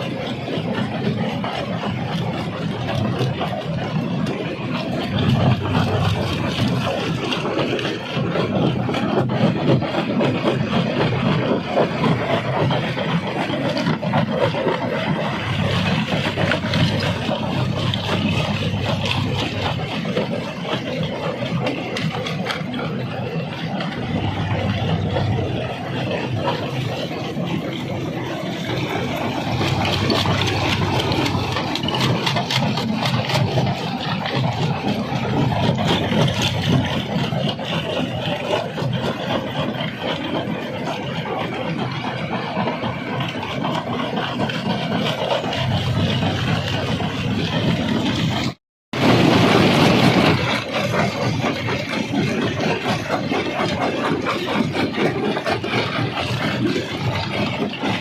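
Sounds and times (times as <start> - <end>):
engine drone: 0.0 - 58.0
rock grinding in crusher: 0.0 - 58.0.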